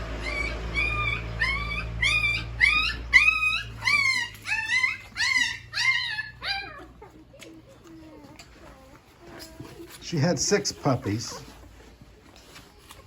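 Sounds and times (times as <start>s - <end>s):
puppy whimpering: 0.0s - 13.0s.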